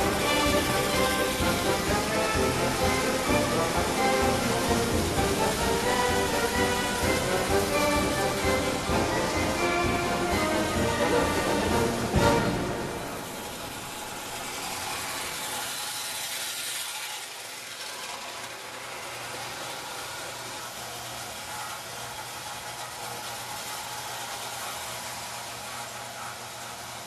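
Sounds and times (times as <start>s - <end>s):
toy trains rattling on track: 0.0s - 27.0s.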